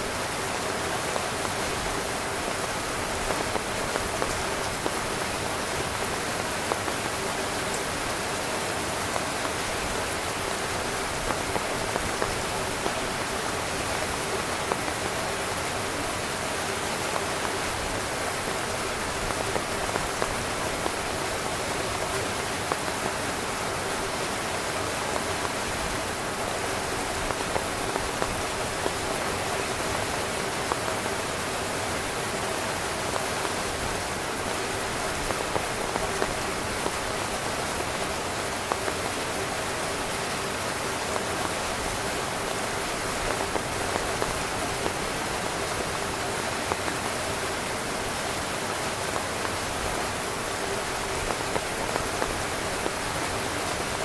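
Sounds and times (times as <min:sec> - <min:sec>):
heavy rain on tent fabric: 0:00.0 - 0:54.0.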